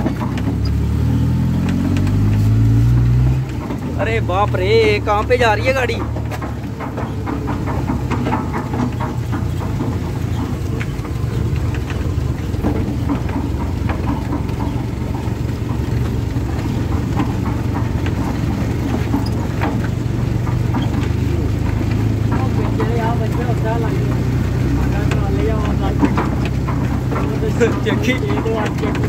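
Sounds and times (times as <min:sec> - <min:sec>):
concrete mixer rattling on asphalt: 0:00.0 - 0:29.0
vehicle and tyres droning: 0:00.0 - 0:29.0.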